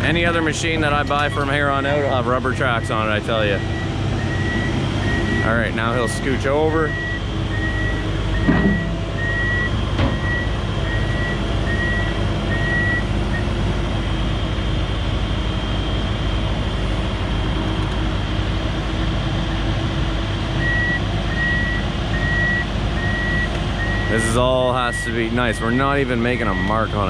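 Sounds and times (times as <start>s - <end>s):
excavator diesel engine running: 0.0s - 27.0s
travel alarm beeping: 0.3s - 16.5s, 20.5s - 27.0s.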